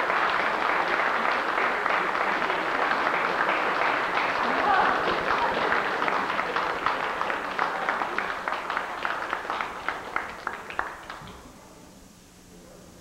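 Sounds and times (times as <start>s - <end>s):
audience applause: 0.0s - 11.6s.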